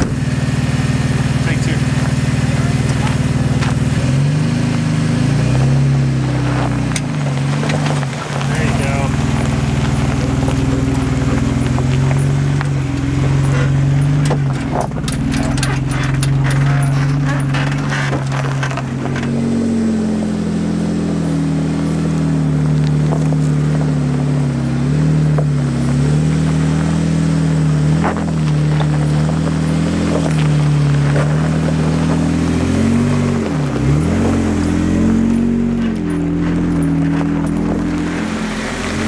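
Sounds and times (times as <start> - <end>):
car engine running at low revs: 0.0 - 39.0
tyres crunching over gravel: 0.0 - 39.0.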